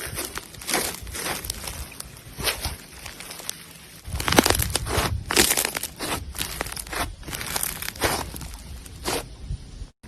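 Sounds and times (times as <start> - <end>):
slime crackling and popping: 0.0 - 9.2.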